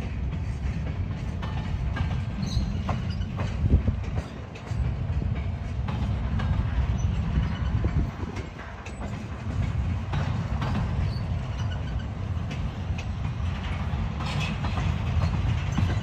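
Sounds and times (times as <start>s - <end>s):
freight train rumbling: 0.0s - 16.0s
wheels clanking over rail joints: 0.0s - 16.0s.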